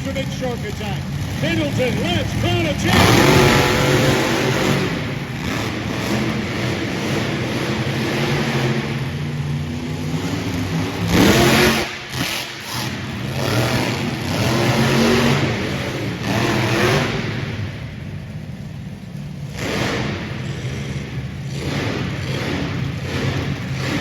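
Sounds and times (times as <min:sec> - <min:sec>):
monster truck engines revving: 0:00.0 - 0:24.0.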